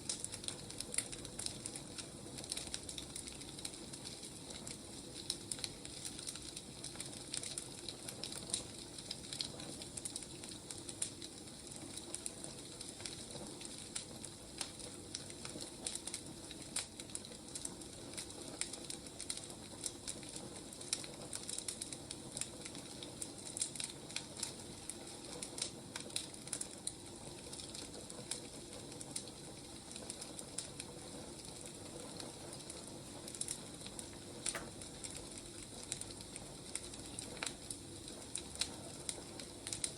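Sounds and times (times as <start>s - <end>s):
firewood crackling and popping: 0.0s - 39.9s
soft fire hiss: 0.0s - 39.9s.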